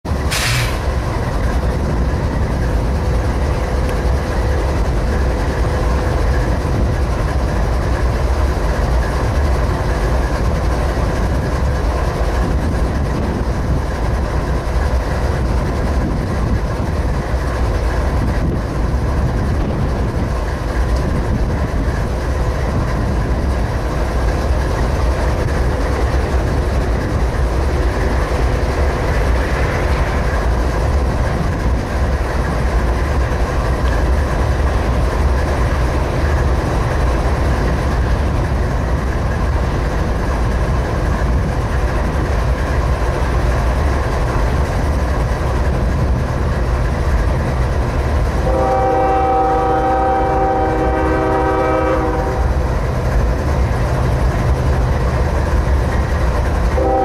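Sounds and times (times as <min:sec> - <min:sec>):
diesel locomotives rumbling: 0:00.0 - 0:57.0.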